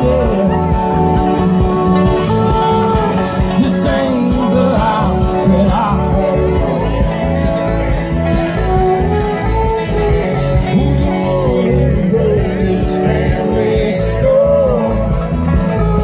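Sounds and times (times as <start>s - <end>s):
person singing: 0.0s - 7.4s, 10.4s - 16.0s
live band music: 0.0s - 16.0s.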